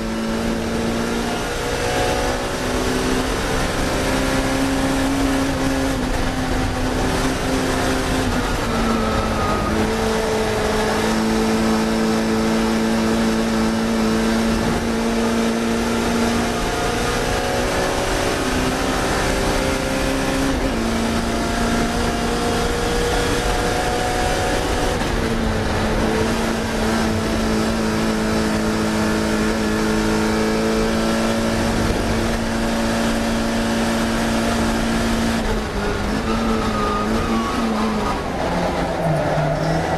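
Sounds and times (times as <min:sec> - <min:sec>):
racing car engine at high revs: 0:00.0 - 0:39.9.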